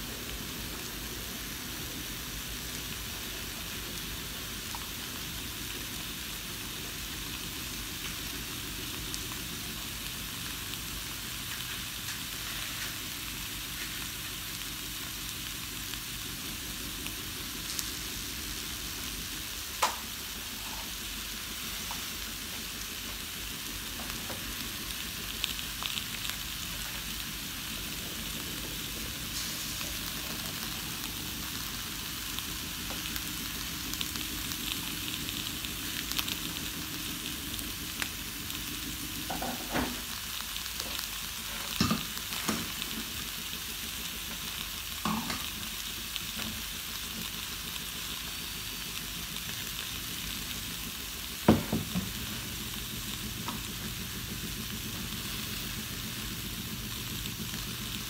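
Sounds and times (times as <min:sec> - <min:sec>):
fish and vegetables sizzling in a pot: 0:00.0 - 0:58.0.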